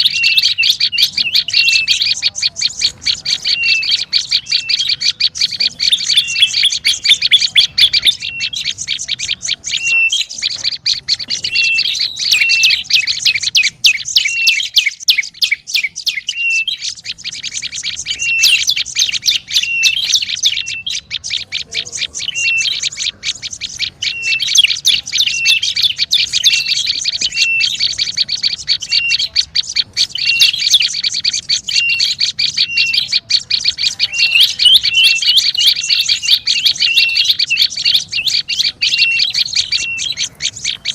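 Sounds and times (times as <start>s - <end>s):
bird chirping rapidly: 0.0s - 40.9s.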